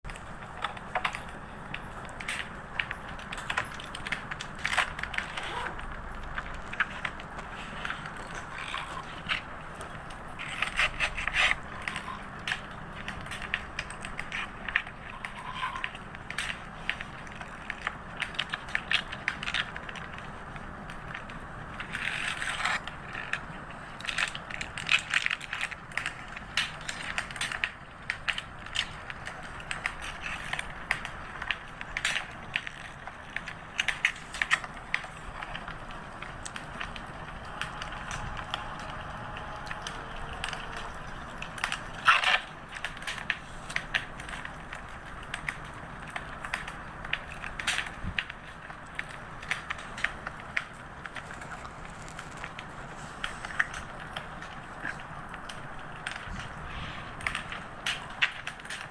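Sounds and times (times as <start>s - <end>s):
fireplace crackling: 0.1s - 58.9s
paper rustling and crinkling: 0.1s - 58.9s.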